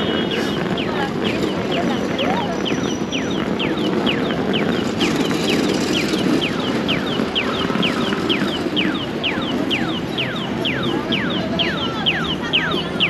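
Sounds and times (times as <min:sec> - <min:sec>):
crossing signal chirping: 0:00.0 - 0:13.0
street noise: 0:00.0 - 0:13.0.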